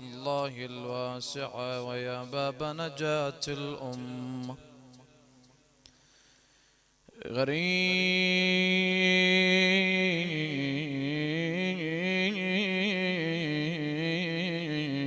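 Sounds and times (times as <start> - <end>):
man chanting melismatically: 0.0 - 5.6, 7.1 - 15.0.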